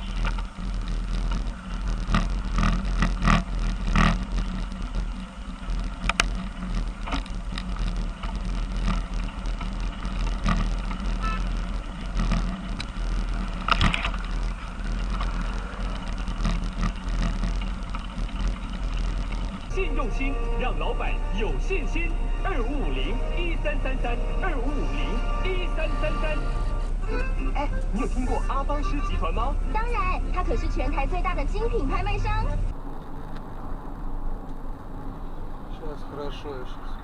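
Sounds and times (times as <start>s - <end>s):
car road and engine rumble: 0.0s - 37.0s.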